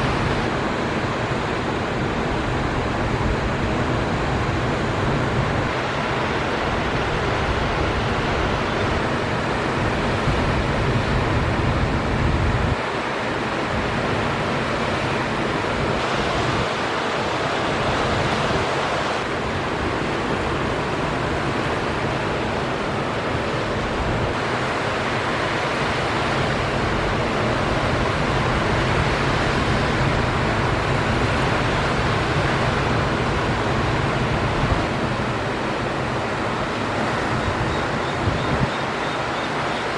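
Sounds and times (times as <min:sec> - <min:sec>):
ocean surf breaking: 0:00.0 - 0:39.9
wind rumbling on microphone: 0:00.0 - 0:39.9.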